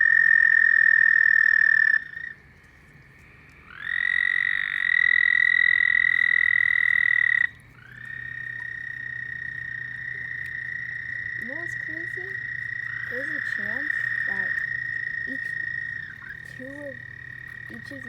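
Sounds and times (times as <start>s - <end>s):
frogs trilling: 0.0s - 18.0s.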